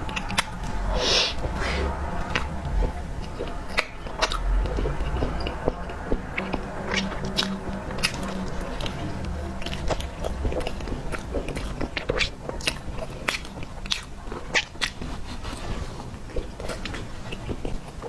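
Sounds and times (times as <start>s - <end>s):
person chewing soft cake: 0.0s - 18.0s.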